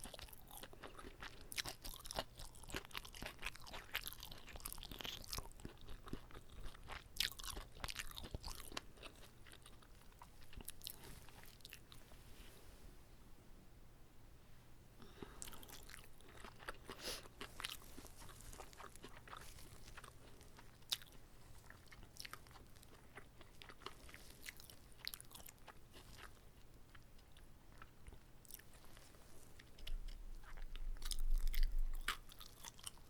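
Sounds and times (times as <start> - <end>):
person chewing food: 0.0 - 12.1, 15.0 - 33.0.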